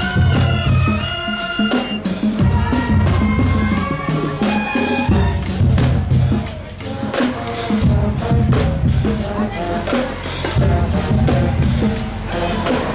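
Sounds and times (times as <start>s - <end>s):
music with drum beat and bass: 0.0s - 12.9s.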